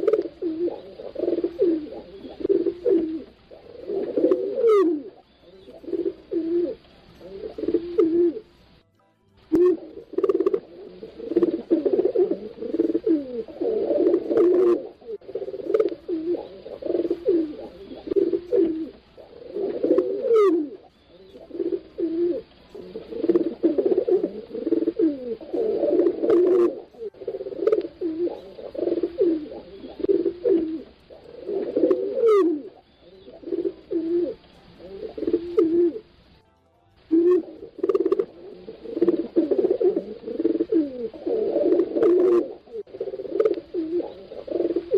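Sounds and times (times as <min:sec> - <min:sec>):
pigeons cooing: 0:00.0 - 0:08.8, 0:09.5 - 0:36.4, 0:37.1 - 0:44.9.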